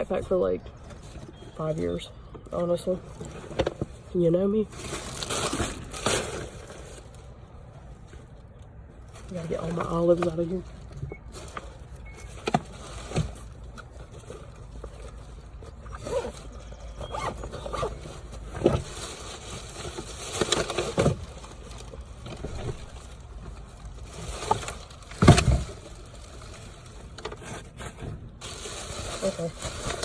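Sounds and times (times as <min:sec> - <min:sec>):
items scraping and rustling in car: 0:00.0 - 0:30.0.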